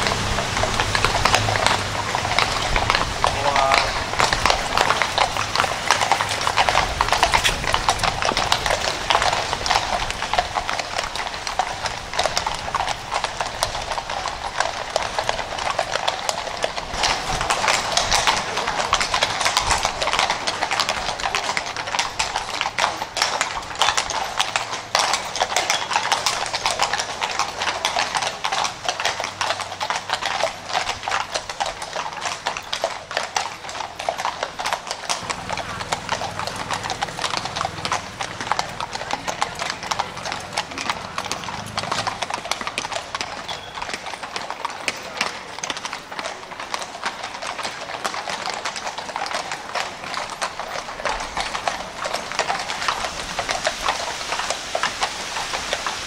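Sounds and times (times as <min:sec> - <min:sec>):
horse hooves clip-clopping: 0:00.0 - 0:56.0.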